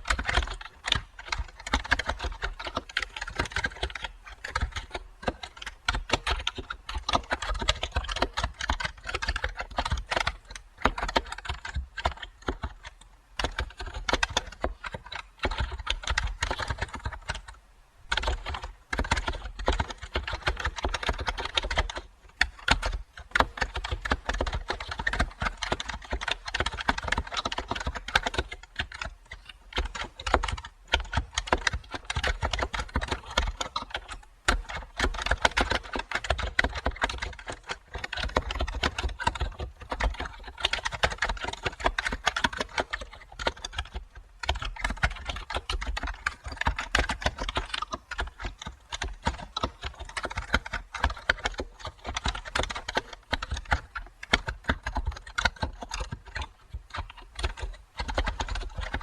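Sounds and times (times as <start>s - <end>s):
computer keyboard typing: 0.0s - 59.0s.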